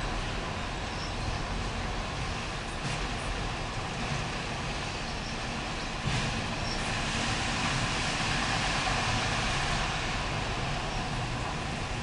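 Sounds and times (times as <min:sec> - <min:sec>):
freight cars rumbling on rails: 0:00.0 - 0:12.0.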